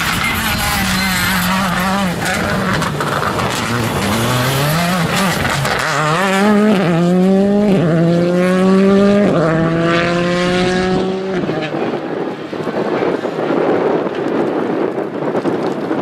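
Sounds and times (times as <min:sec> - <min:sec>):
race car engine at full throttle: 0:00.0 - 0:16.0.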